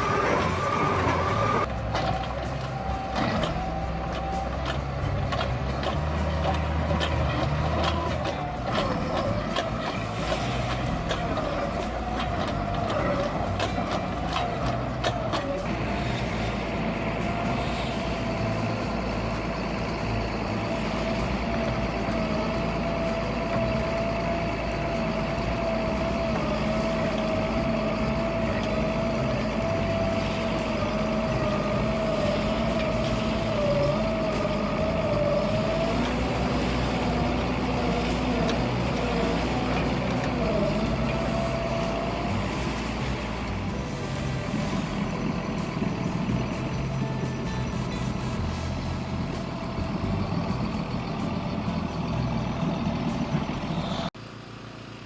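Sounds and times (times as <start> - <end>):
high whine: 0.0 - 54.1
heavy machine engine running: 0.0 - 55.0.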